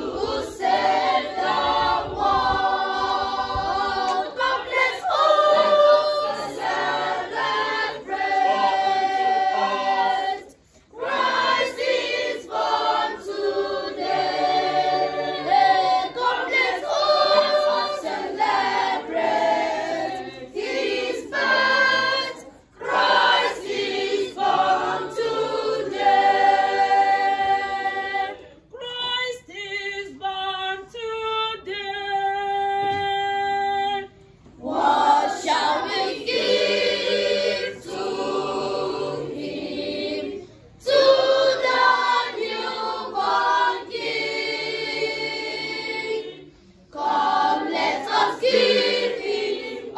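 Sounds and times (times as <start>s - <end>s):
youth choir singing: 0.0s - 31.0s, 32.8s - 49.9s.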